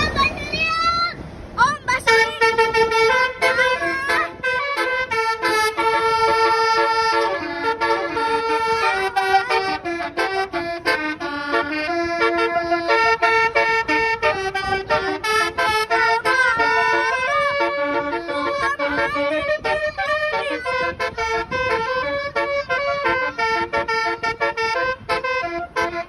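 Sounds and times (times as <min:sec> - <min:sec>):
multi-tone musical horn tune: 0:02.0 - 0:26.0.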